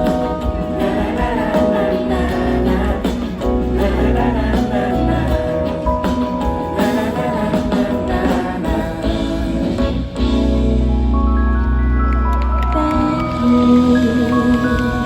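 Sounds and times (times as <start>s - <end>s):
person singing: 0.0s - 11.6s, 12.6s - 15.0s
live band playing: 0.0s - 15.0s.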